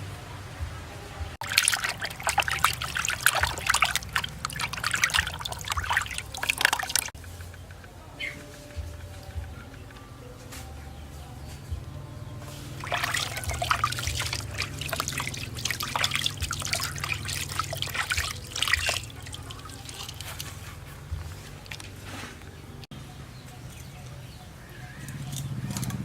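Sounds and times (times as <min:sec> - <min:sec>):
water trickling and splashing: 0:00.0 - 0:09.9, 0:11.8 - 0:26.0.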